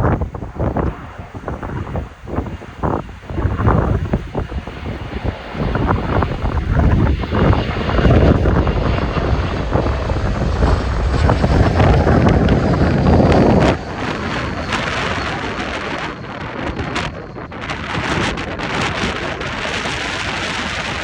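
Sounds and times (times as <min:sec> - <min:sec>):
jet plane passing overhead: 0:00.0 - 0:21.0.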